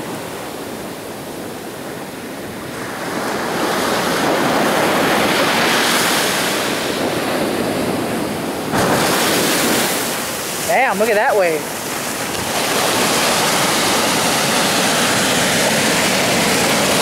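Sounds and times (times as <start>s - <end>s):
ocean wave breaking and rushing: 0.0s - 17.0s.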